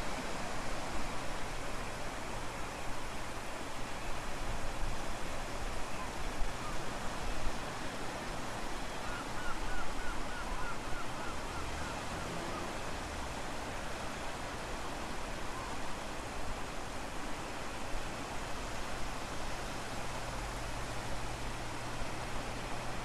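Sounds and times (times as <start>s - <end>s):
rushing water hiss: 0.0s - 23.0s.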